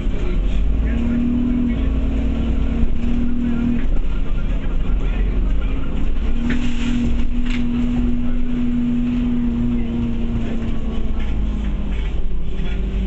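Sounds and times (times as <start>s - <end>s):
bus engine drone: 0.0s - 13.0s
road rumble: 0.0s - 13.0s.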